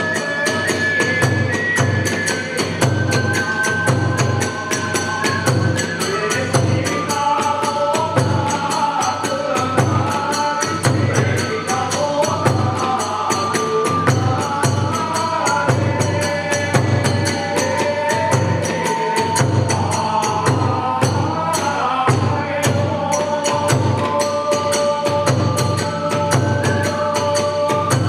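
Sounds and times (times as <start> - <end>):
taiko drum beats: 0.0 - 9.0, 9.7 - 28.0
wavering flute melody: 0.0 - 21.5, 23.1 - 28.0
hand cymbals clashing: 0.0 - 28.0.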